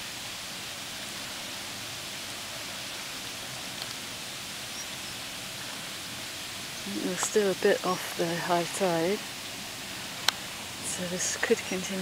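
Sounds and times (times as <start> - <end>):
water rushing through flood gates: 0.0 - 12.0.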